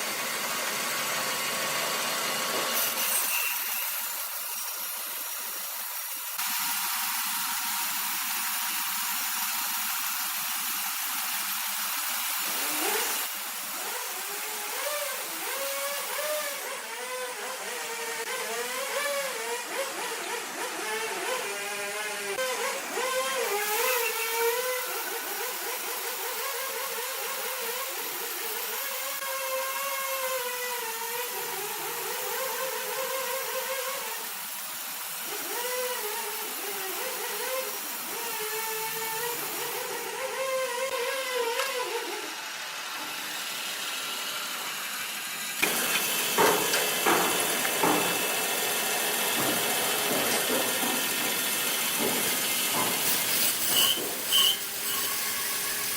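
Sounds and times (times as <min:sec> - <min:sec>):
noisy machine with knocks and hiss: 0:00.0 - 0:55.9
sawmill saw whining: 0:00.0 - 0:55.9.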